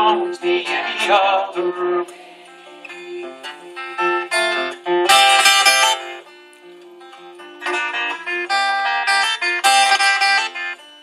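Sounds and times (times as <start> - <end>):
acoustic guitar picking: 0.0 - 11.0.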